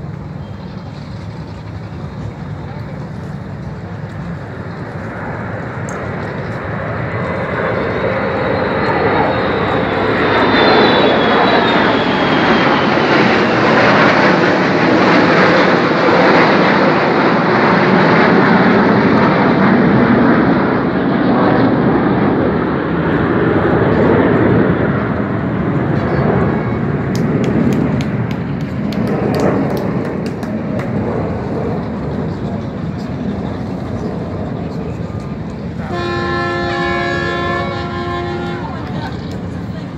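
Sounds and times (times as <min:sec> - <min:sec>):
jets roaring overhead: 0:00.0 - 0:39.9.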